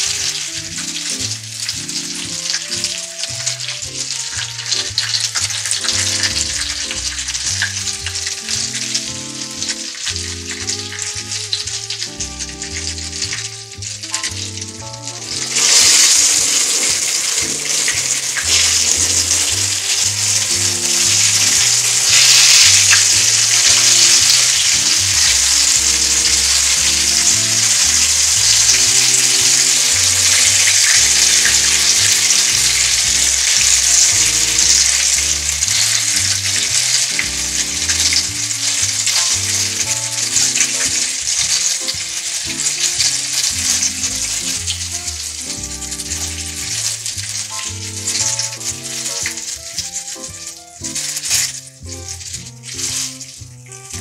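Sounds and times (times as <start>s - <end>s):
tomato slices frying in oil: 0.0s - 54.0s.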